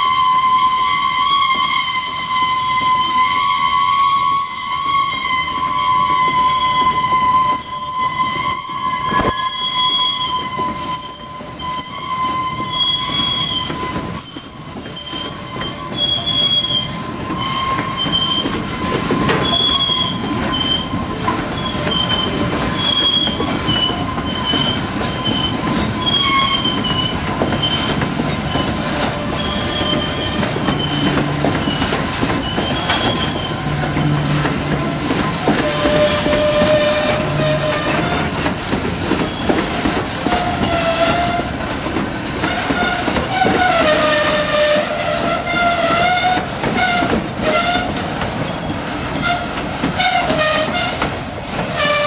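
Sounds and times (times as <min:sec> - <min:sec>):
train wheels squealing: 0:00.0 - 0:38.4, 0:39.1 - 0:41.5, 0:42.5 - 0:51.0
rumble of freight cars: 0:00.0 - 0:52.0.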